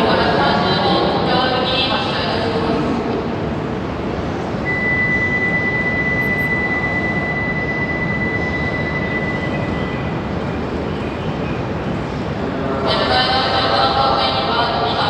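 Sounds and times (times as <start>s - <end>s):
high train whine: 0.0s - 15.0s
train rushing rumble: 0.0s - 15.0s.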